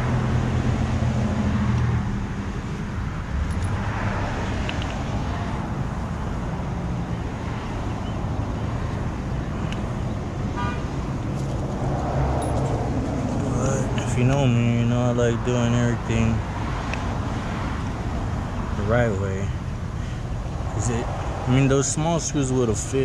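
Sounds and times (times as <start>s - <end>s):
road traffic rumble: 0.0s - 23.0s
vehicle engine running nearby: 0.0s - 23.0s.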